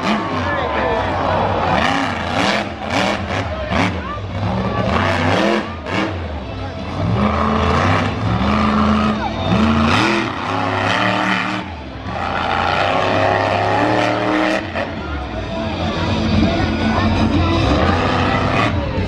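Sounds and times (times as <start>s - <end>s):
truck engine revving hard: 0.0s - 19.0s.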